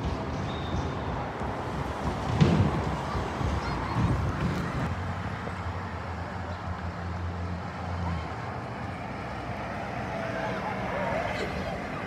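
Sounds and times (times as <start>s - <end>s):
bus engine humming: 1.1s - 12.0s.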